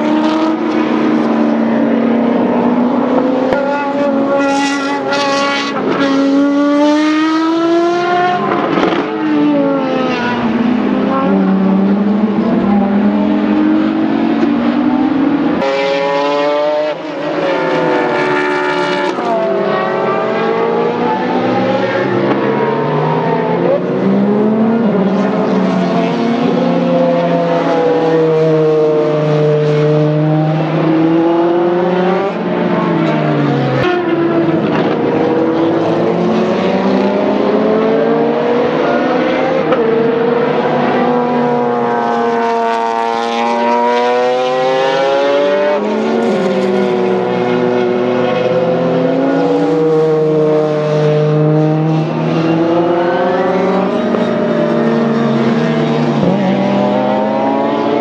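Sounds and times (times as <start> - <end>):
car accelerating hard: 0.0 - 58.0
racing car engines passing: 0.0 - 58.0.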